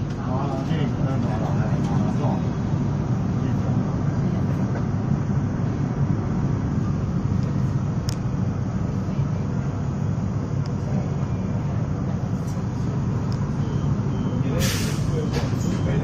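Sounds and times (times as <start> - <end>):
road vehicles rumbling: 0.0 - 16.0.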